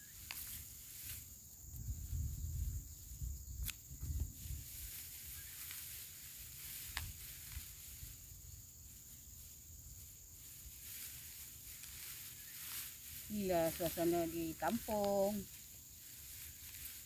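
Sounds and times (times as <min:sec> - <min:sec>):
high insect drone: 0:00.0 - 0:17.0
lemongrass stalks rustling and crackling: 0:00.0 - 0:17.0.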